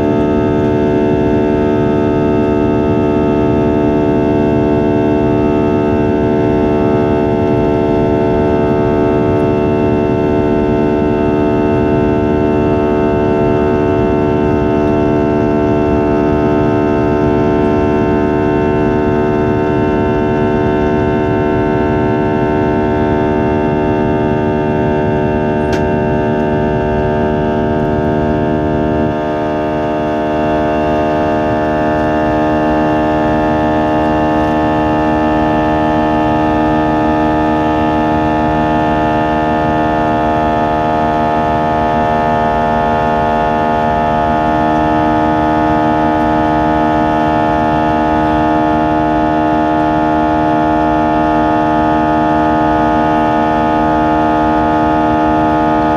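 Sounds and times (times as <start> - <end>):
jet engine drone in cabin: 0.0 - 55.9.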